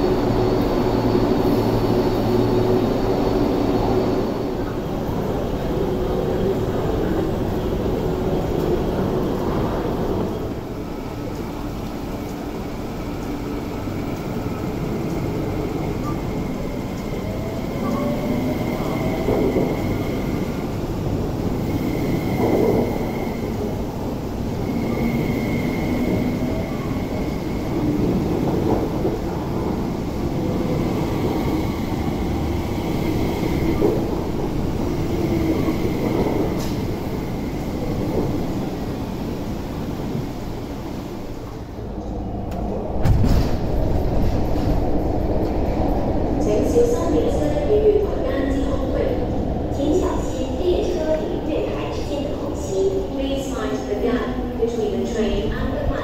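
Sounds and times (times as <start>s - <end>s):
train carriages rumbling on track: 0.0s - 56.0s.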